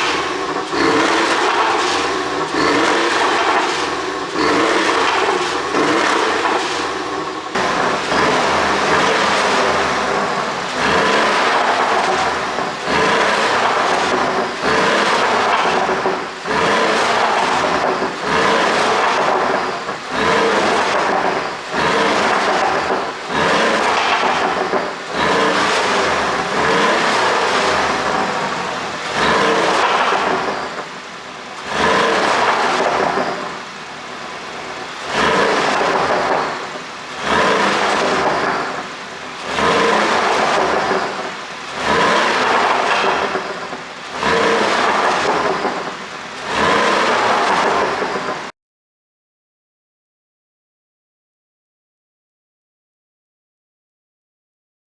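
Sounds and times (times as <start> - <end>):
car engine revving: 0.0 - 48.5.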